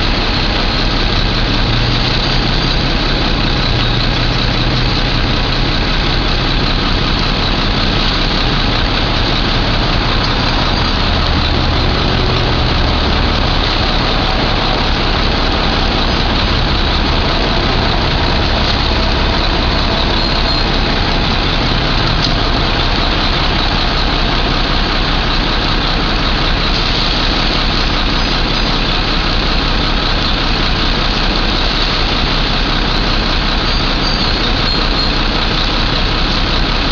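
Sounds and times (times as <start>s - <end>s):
loud rushing noise: 0.0s - 33.3s
heavy engine idling: 0.0s - 36.9s.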